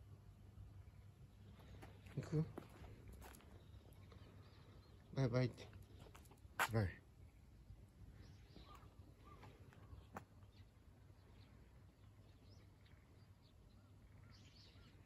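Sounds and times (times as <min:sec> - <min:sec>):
faint street background: 0:00.0 - 0:15.0
faint bird chirps: 0:00.7 - 0:15.0.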